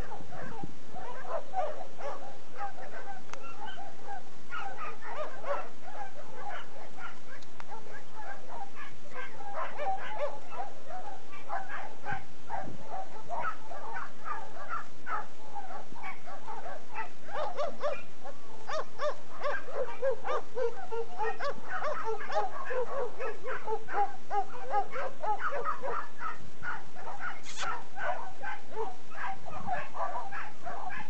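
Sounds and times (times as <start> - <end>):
many dogs barking and yelping: 0.0 - 31.0.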